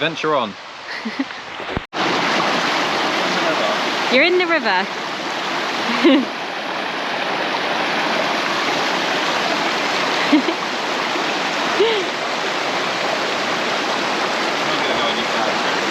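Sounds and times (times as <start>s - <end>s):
mountain stream rushing: 0.0s - 15.9s.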